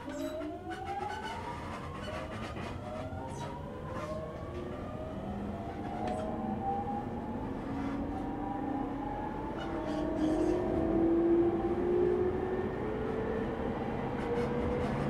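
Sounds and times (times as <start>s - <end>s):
wheel and track rumble: 0.0s - 8.6s, 9.2s - 15.0s.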